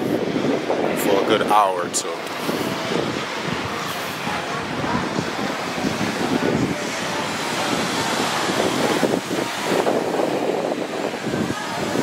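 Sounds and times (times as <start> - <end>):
small waves breaking on sand: 0.0 - 12.0
wind rushing across microphone: 0.0 - 12.0.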